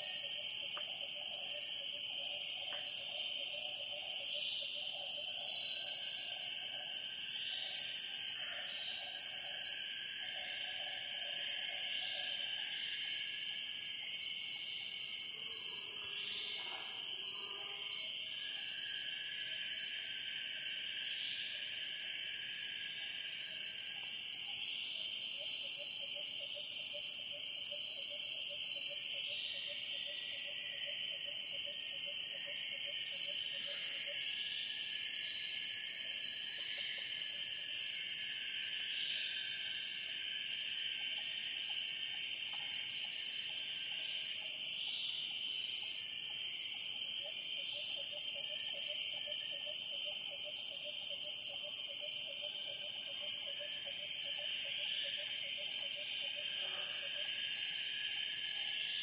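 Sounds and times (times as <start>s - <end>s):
insects and cicadas droning: 0.0s - 59.0s.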